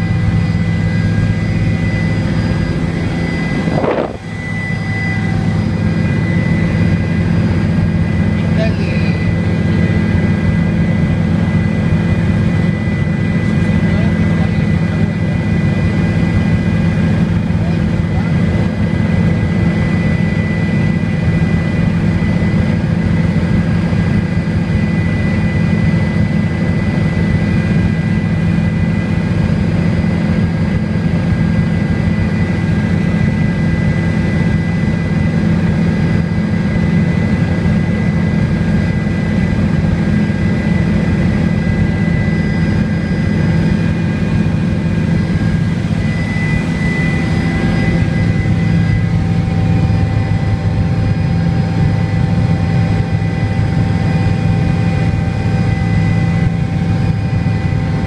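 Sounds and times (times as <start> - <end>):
small aircraft engine drone: 0.0 - 58.0
thin steady whine: 0.0 - 58.0.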